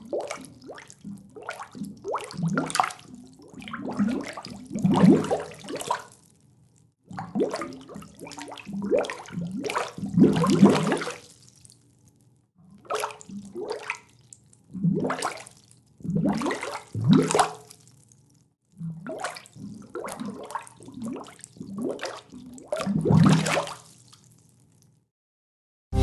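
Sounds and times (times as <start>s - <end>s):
air bubbles gurgling in water: 0.0s - 6.2s, 7.1s - 11.7s, 12.7s - 17.9s, 18.7s - 24.2s.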